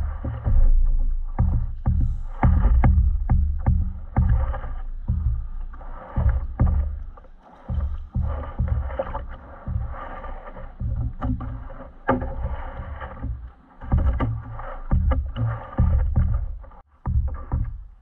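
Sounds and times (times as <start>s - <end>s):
waves knocking on kayak hull: 0.0s - 17.9s
water splashing and lapping: 1.4s - 16.9s.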